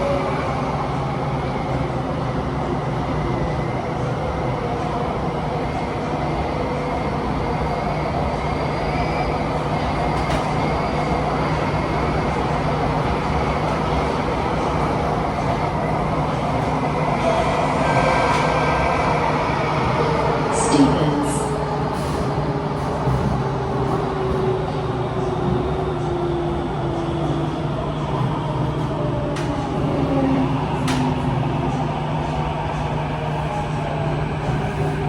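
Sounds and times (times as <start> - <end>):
train wind and rail noise: 0.0 - 35.0.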